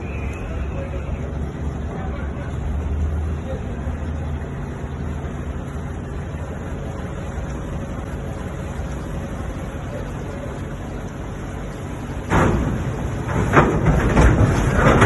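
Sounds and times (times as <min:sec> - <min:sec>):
ship engine rumble: 0:00.0 - 0:15.0
water noise: 0:00.0 - 0:15.0
wind: 0:00.0 - 0:15.0.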